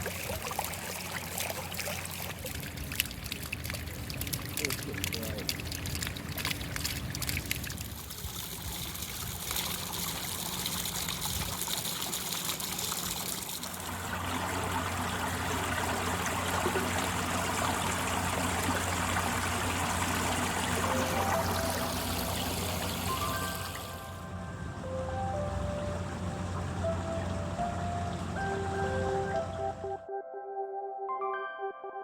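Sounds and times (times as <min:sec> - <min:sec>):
stream trickling and splashing: 0:00.0 - 0:24.3, 0:25.1 - 0:29.9.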